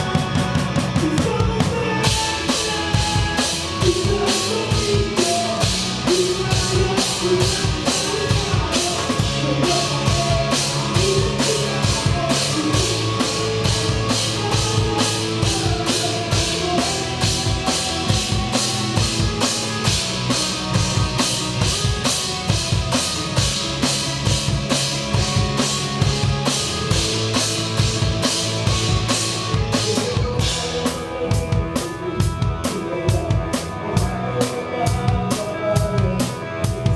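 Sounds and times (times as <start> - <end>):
bass guitar: 0.0 - 36.9
drum kit beat: 0.0 - 36.9
live band music: 0.0 - 36.9.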